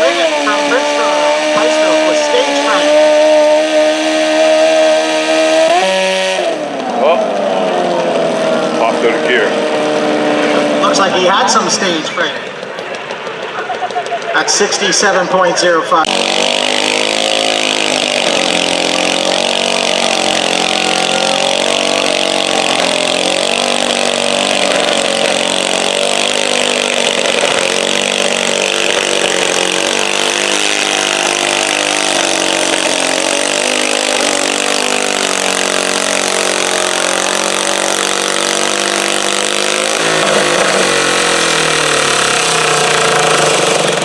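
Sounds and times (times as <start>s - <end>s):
tractor engine at high revs: 0.0s - 44.0s.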